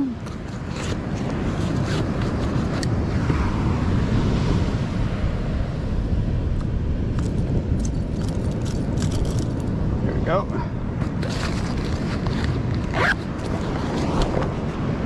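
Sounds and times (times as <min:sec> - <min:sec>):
surf rumble: 0:00.0 - 0:15.0
wind buffeting microphone: 0:00.0 - 0:15.0.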